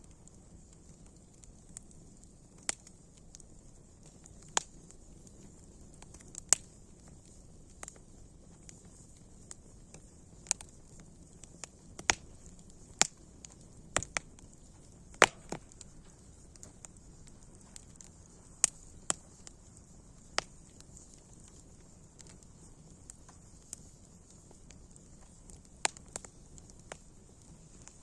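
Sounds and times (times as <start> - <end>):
campfire crackling and popping: 0.0 - 28.0
faint steady hiss: 0.0 - 28.0.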